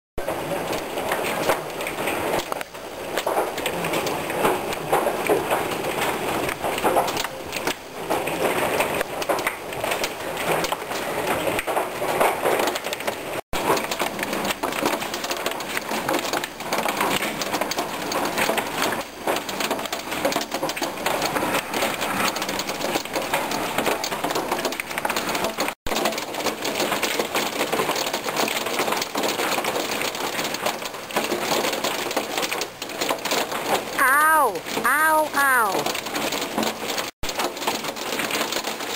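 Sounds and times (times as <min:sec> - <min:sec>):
hail and rain on wooden deck: 0:00.2 - 0:34.8, 0:35.8 - 0:38.9.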